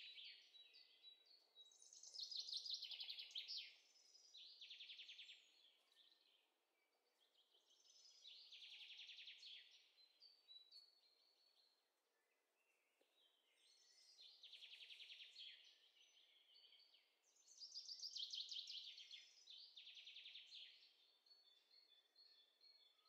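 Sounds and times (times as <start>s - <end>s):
faint birdsong trilling chirps: 0.0s - 23.0s.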